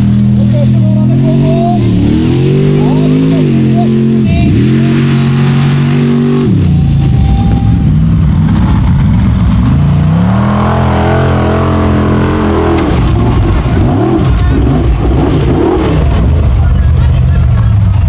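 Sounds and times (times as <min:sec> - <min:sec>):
buggy engine revving high: 0:00.0 - 0:18.0.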